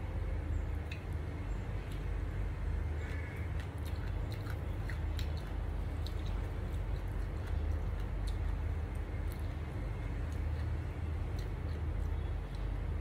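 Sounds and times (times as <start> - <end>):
chewing with mouth closed: 0.7 - 2.3, 3.0 - 13.0.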